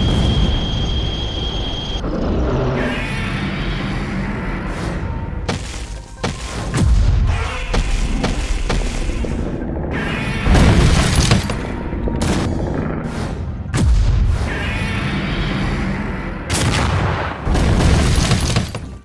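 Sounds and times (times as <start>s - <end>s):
dramatic soundtrack music: 0.0s - 19.0s.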